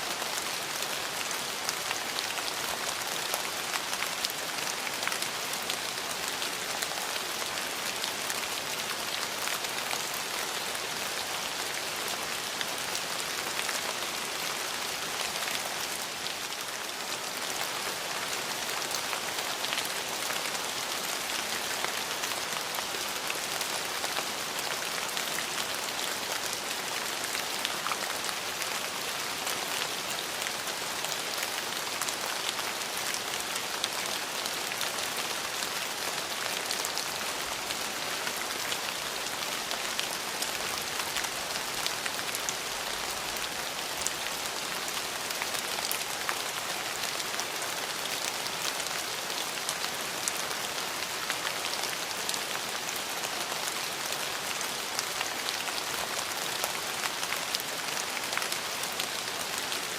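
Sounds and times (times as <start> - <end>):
rain falling: 0.0 - 59.9
raindrops pattering on surfaces: 0.1 - 59.9.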